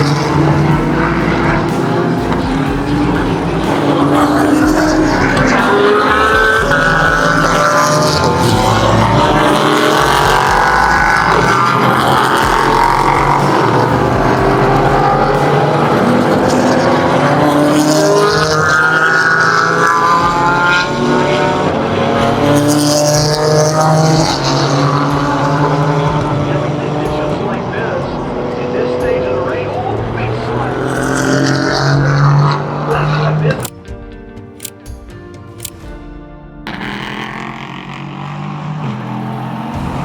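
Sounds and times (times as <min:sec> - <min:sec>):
racing cars passing: 0:00.0 - 0:33.8, 0:36.6 - 0:40.0.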